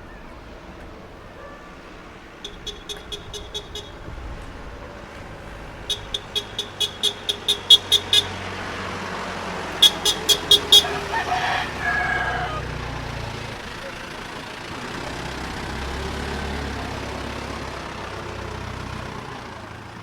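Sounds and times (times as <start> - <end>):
vehicle engine running: 0.4 - 20.0.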